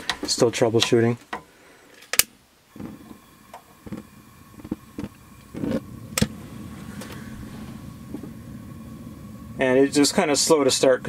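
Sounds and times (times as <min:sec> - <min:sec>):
gas burner burning: 0:00.0 - 0:11.0.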